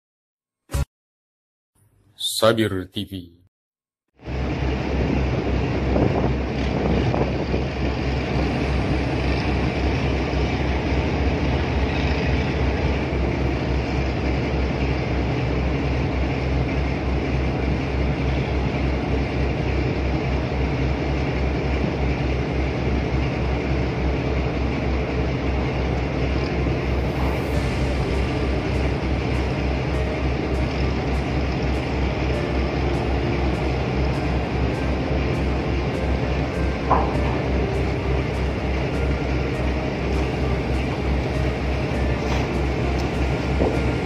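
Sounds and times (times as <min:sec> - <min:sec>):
diesel engine throbbing: 0:04.2 - 0:44.0
rushing noise: 0:04.2 - 0:44.0.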